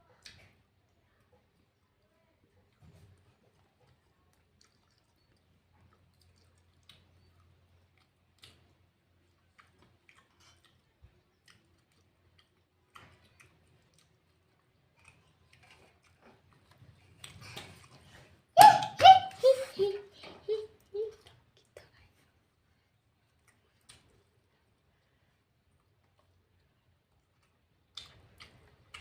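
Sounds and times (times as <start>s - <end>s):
faint chewing: 0.0s - 18.6s, 20.0s - 29.0s.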